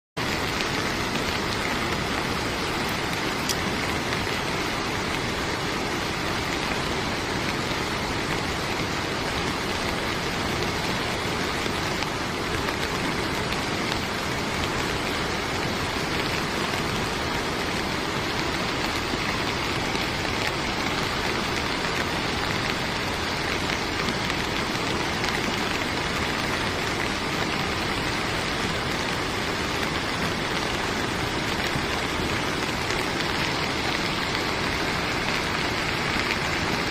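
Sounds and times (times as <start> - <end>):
rushing floodwater waterfall: 0.2 - 36.9.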